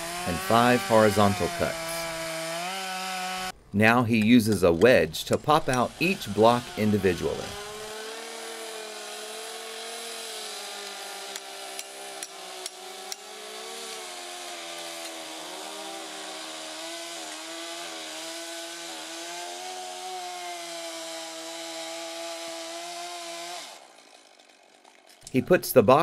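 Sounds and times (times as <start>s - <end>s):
chainsaw engine idling: 0.0s - 3.5s, 4.2s - 25.4s.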